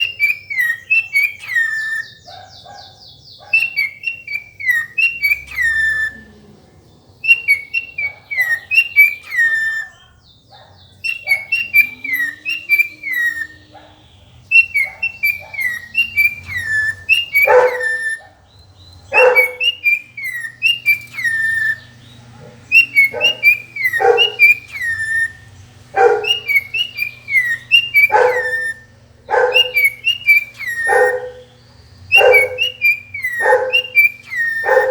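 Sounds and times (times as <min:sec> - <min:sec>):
cockatiel whistling: 0:00.0 - 0:02.8, 0:03.4 - 0:06.3, 0:07.2 - 0:10.2, 0:11.0 - 0:34.9
harsh bird calls: 0:00.0 - 0:34.9.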